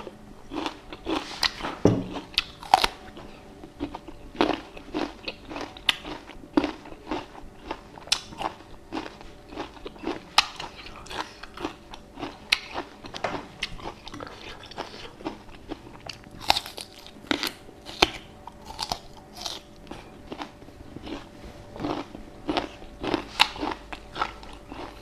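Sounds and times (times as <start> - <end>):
person chewing crunchy fruit: 0.0 - 25.0.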